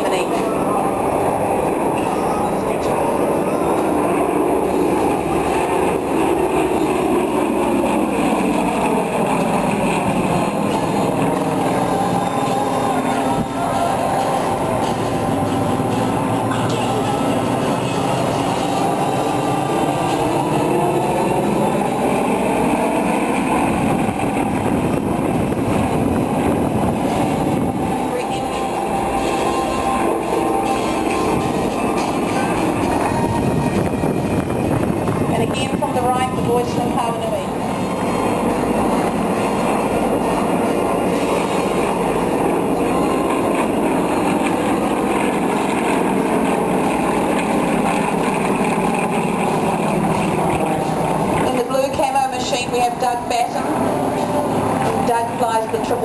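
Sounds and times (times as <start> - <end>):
propeller planes droning overhead: 0.0 - 56.0.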